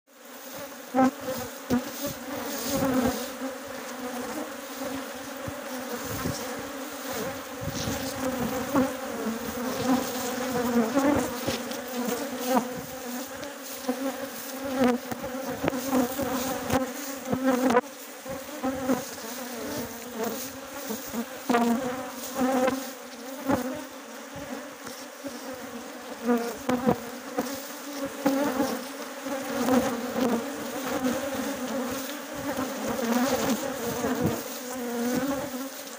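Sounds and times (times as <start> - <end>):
honeybees buzzing: 0.1 - 35.9.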